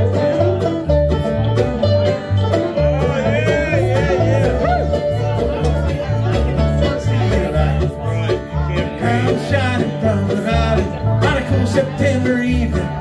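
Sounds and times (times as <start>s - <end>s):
bluegrass band playing: 0.0s - 13.0s
upright bass beat: 0.0s - 13.0s.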